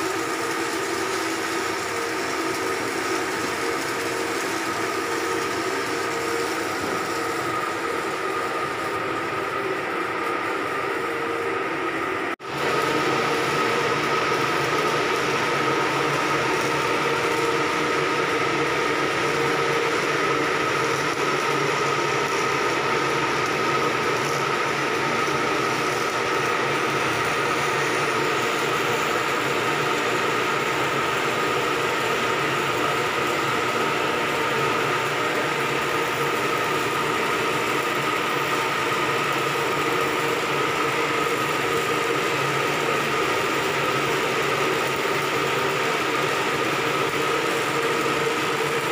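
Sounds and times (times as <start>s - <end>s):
engine room machinery drone: 0.0s - 48.9s
high-pitched machine whine: 0.0s - 48.9s.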